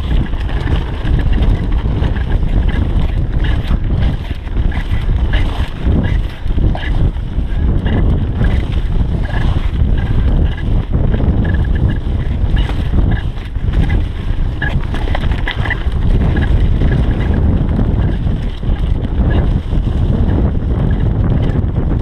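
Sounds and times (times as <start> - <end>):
bike clicks and rattles: 0.0 - 22.0
bike tyre noise on dirt: 0.0 - 22.0
wind buffeting microphone: 0.0 - 22.0.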